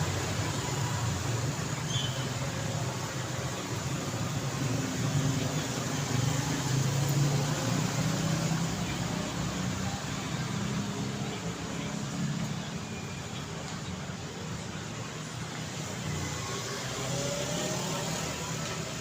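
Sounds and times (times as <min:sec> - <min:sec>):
tyre and road noise: 0:00.0 - 0:19.0.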